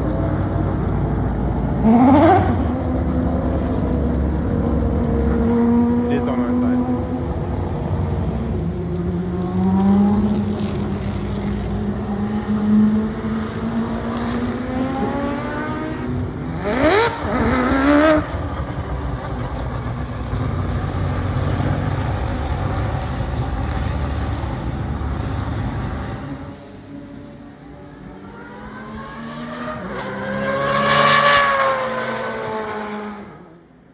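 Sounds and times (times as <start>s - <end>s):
race car engine accelerating: 0.0s - 27.0s, 27.7s - 33.6s
car passing revving hard: 1.7s - 26.6s, 28.1s - 33.6s.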